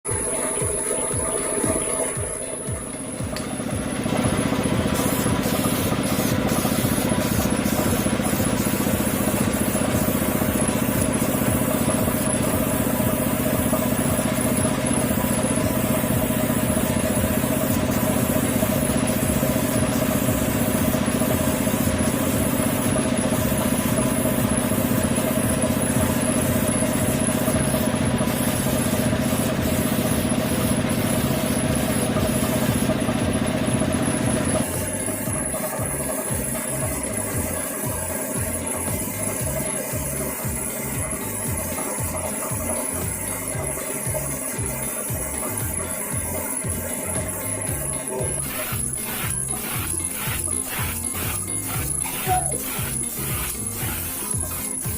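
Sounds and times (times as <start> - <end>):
motor running: 0.0 - 54.9.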